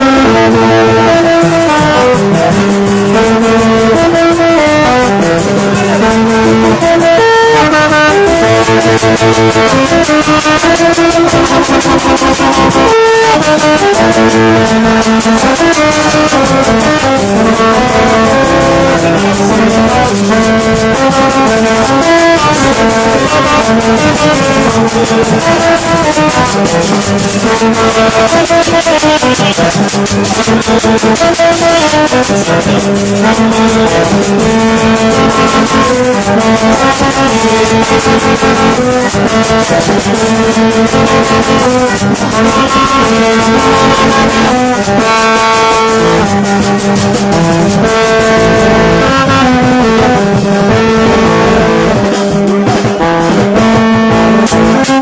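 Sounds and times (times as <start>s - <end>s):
melody of held notes: 0.0s - 55.0s
steady percussion beat: 0.0s - 55.0s.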